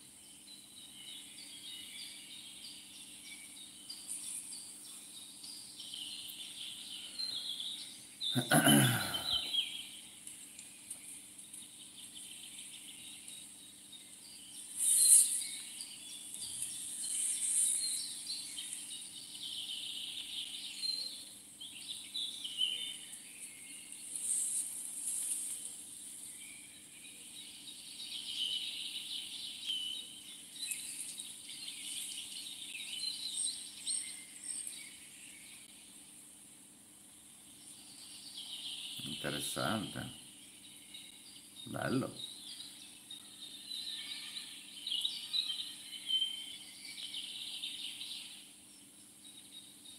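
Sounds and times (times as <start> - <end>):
birds chirping: 0.0 - 49.9
insects: 0.0 - 49.9.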